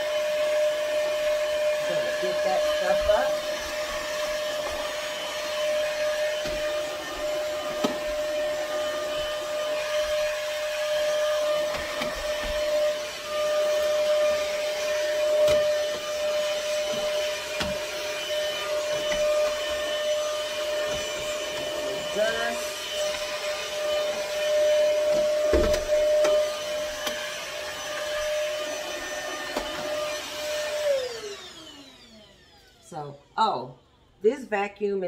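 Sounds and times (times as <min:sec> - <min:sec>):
handheld vacuum whine: 0:00.0 - 0:34.1.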